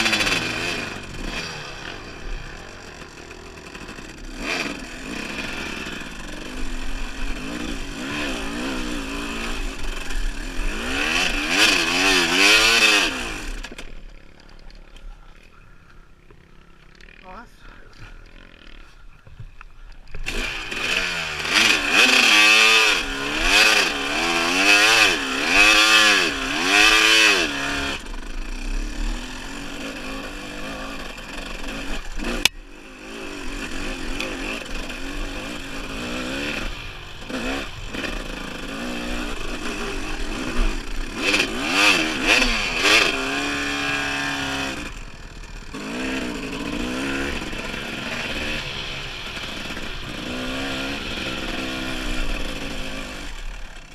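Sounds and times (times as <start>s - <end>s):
dirt bike engine revving: 0.0s - 15.1s, 16.2s - 19.0s, 20.1s - 53.9s.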